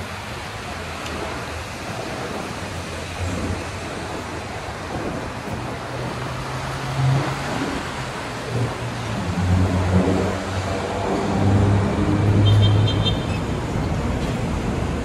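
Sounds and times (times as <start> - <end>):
passing vehicles rushing: 0.0 - 15.0.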